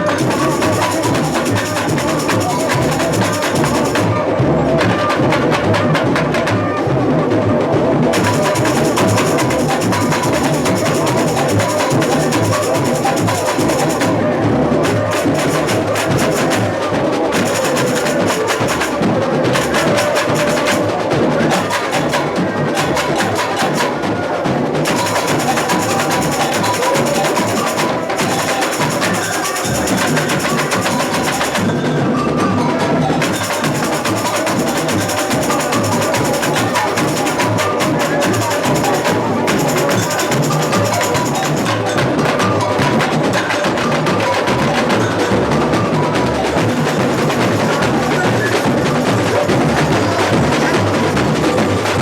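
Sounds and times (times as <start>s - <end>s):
high sharp percussion clicks: 0.0s - 7.0s, 8.1s - 52.0s
snare drums: 0.0s - 52.0s.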